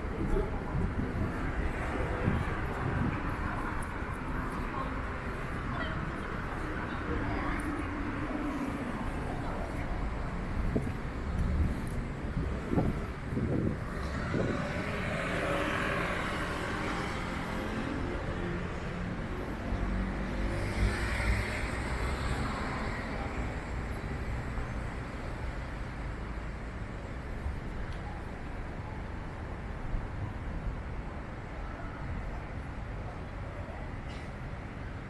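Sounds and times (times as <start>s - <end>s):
road vehicles passing: 0.0s - 35.0s.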